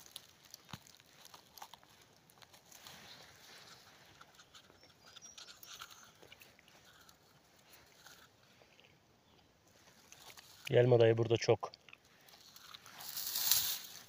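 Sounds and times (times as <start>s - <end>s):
faint rustles and clicks: 0.0s - 14.0s.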